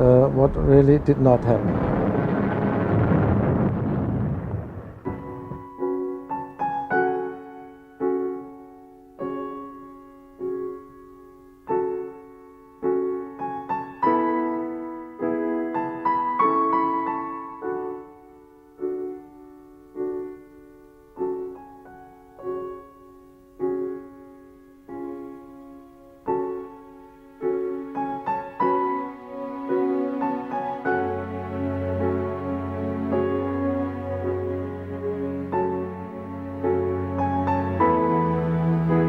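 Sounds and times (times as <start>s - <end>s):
slow sombre piano chords: 0.0s - 39.0s.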